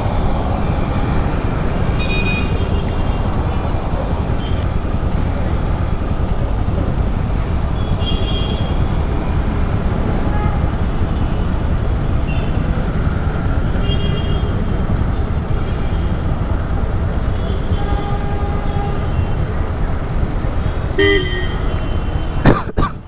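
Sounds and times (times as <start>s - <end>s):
city traffic: 0.0s - 23.0s.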